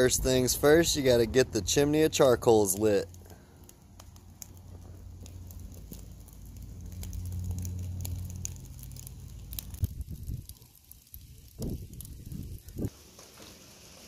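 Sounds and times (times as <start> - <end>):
charcoal and wood crackling: 0.0 - 14.0
low rumble of fire: 0.0 - 14.0.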